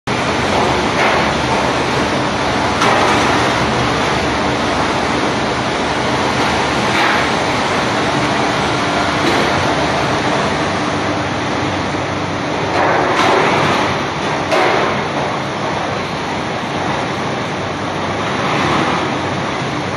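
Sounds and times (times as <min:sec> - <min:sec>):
faint machine hum: 0:00.1 - 0:19.9
water spraying inside machine: 0:00.1 - 0:19.9.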